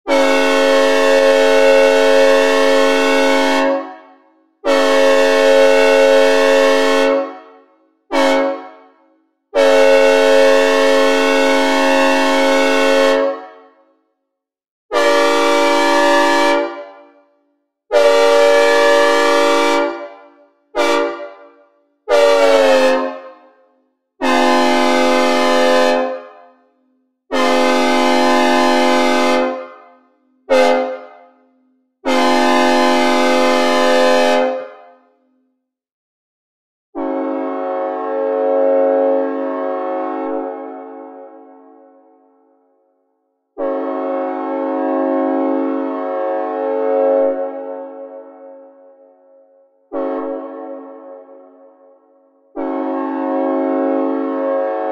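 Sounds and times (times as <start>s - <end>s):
train air horn chord: 0.1s - 14.0s, 14.9s - 17.2s, 17.9s - 23.6s, 24.2s - 26.6s, 27.3s - 31.4s, 32.0s - 35.0s, 37.0s - 42.6s, 43.6s - 49.2s, 49.9s - 54.9s.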